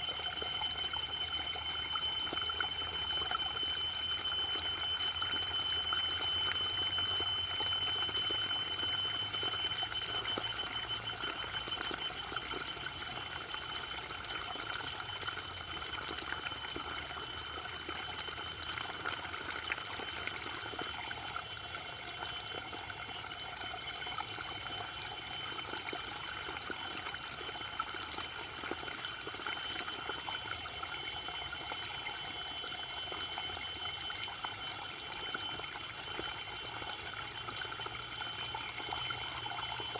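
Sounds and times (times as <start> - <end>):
thin high-pitched tone: 0.0 - 39.9.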